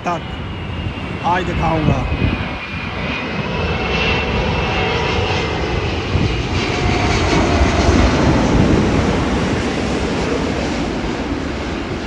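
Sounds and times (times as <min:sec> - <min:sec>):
jet airliner engines rushing: 0:00.0 - 0:12.0.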